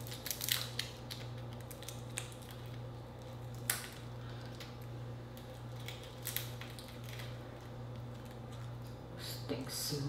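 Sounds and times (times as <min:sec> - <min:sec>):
shrimp shell cracking: 0:00.0 - 0:08.9.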